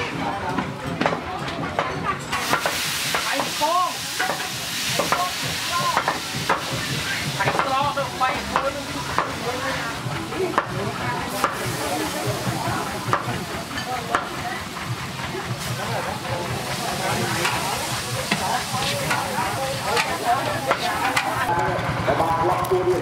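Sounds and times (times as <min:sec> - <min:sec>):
food sizzling in a pan: 0:02.3 - 0:10.6, 0:11.3 - 0:21.5.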